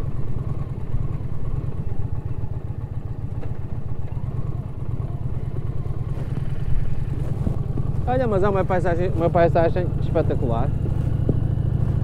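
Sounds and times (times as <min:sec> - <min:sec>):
motorcycle engine low pulsing: 0:00.0 - 0:12.0.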